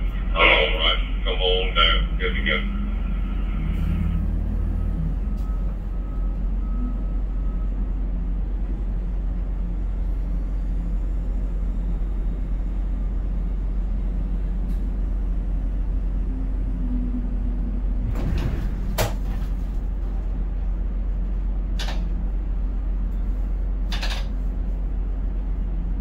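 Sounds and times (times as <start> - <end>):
crane hoist machinery rumble: 0.0 - 26.0.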